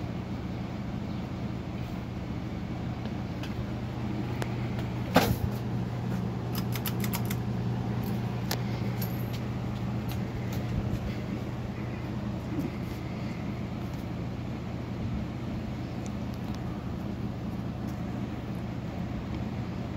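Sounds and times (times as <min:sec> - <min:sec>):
ceiling fan motor hum: 0:00.0 - 0:19.9.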